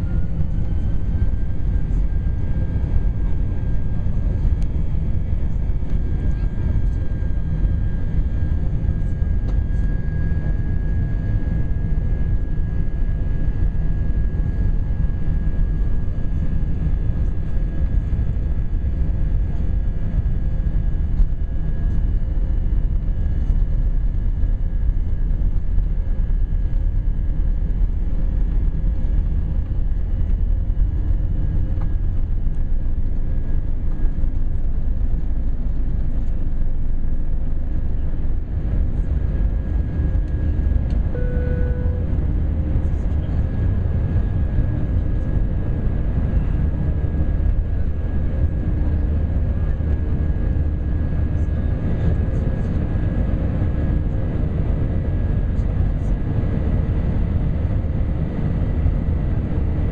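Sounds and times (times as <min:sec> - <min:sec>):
jet engines deep rumble: 0:00.0 - 0:59.9
thin steady whine: 0:00.0 - 0:59.9.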